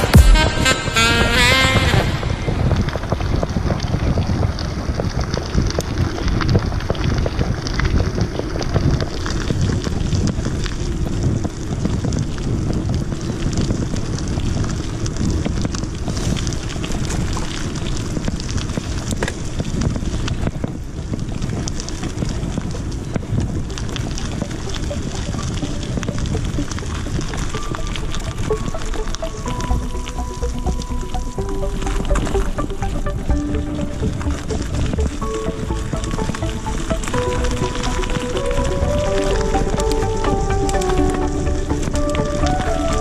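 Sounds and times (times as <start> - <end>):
bike tyres rolling on gravel: 0.0 - 43.0
wind buffeting microphone: 0.0 - 43.0.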